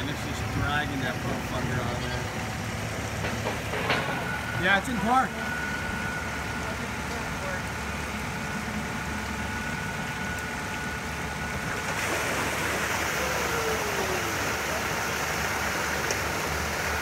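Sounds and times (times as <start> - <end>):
water rushing off a truck: 0.0 - 17.0.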